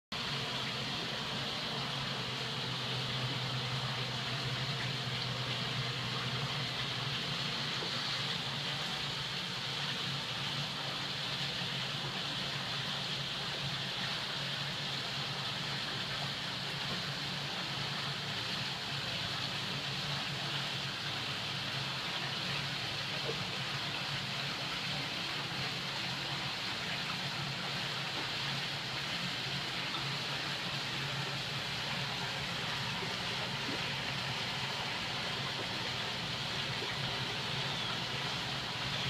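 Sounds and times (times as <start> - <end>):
water rushing: 0.1 - 39.0.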